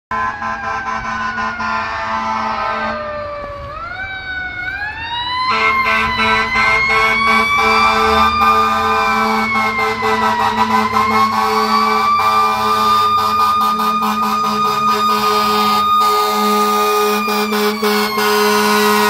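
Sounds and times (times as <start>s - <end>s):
fire engine siren wailing: 0.1s - 19.0s.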